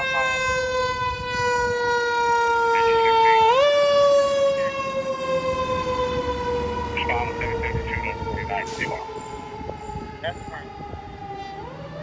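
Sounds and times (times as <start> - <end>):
fire engine siren wailing: 0.0 - 12.0.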